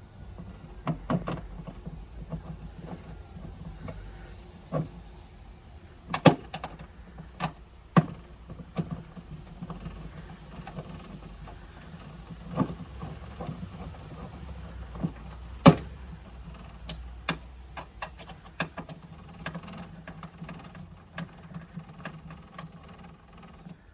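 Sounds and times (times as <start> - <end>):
tools clicking and knocking on latch: 0.0 - 23.9.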